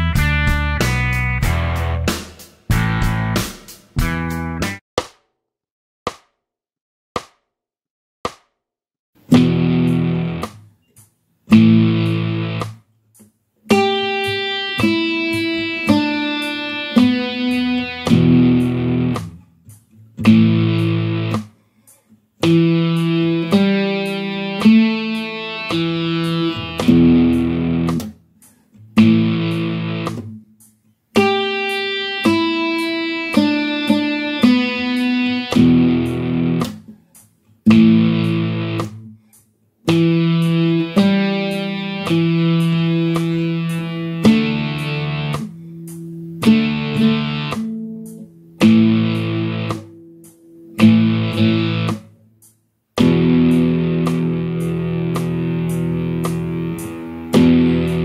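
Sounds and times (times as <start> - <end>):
guitar playing rock riff: 0.0 - 4.8, 9.2 - 10.7, 11.5 - 12.8, 13.7 - 19.5, 20.2 - 21.5, 22.4 - 28.2, 28.9 - 30.4, 31.2 - 37.0, 37.7 - 39.2, 39.9 - 52.2, 53.0 - 58.0.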